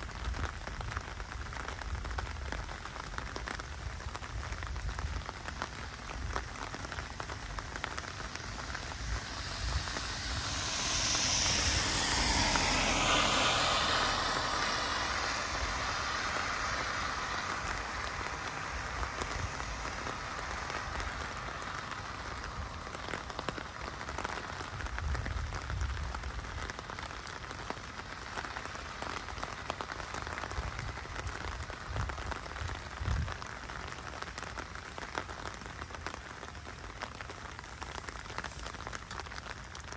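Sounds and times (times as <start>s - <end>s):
car tyres hissing on wet road: 0.0s - 39.9s
rain on pavement and foliage: 0.0s - 39.9s.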